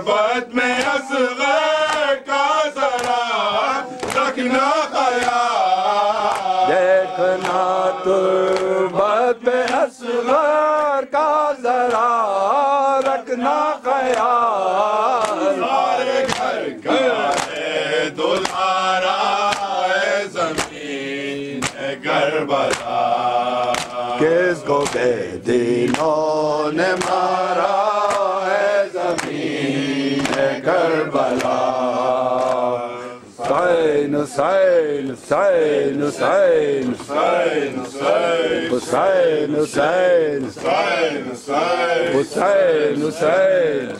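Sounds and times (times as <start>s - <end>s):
men chanting a lament: 0.0s - 43.9s
hands slapping chests: 0.7s - 1.1s, 1.7s - 2.2s, 2.8s - 11.0s, 11.7s - 20.9s, 21.5s - 43.9s.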